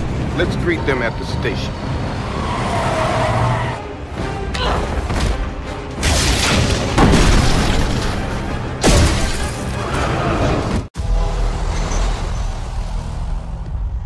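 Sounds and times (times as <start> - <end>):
dramatic trailer music: 0.0 - 14.0.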